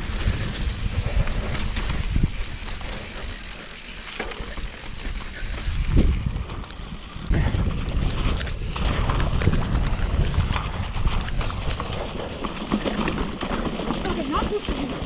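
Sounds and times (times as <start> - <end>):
wind rumble on microphone: 0.0 - 3.6, 4.4 - 15.0
bike knocking and rattling: 0.0 - 15.0.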